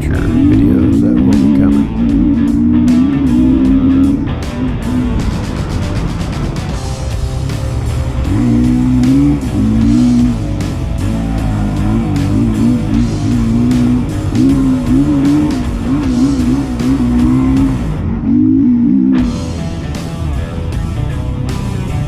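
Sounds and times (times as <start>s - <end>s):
motorcycle engine revving: 0.0s - 22.0s
rock guitar music: 0.0s - 22.0s.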